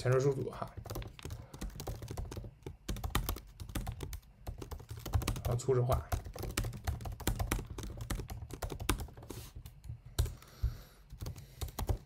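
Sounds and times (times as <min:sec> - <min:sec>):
typing on computer keyboard: 0:00.0 - 0:10.4, 0:11.1 - 0:12.0.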